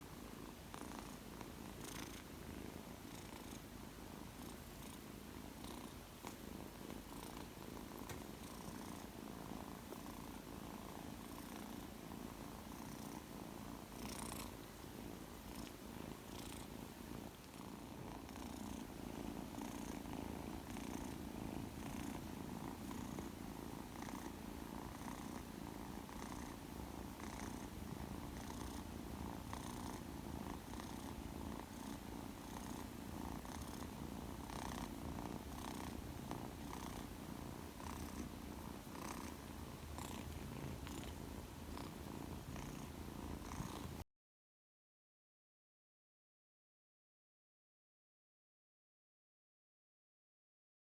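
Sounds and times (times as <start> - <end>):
kitten purring: 0.0 - 44.0.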